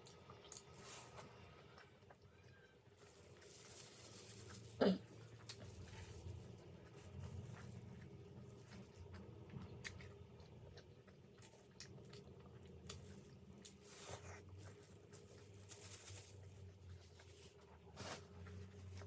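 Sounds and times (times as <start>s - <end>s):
person chewing food: 0.0s - 15.9s.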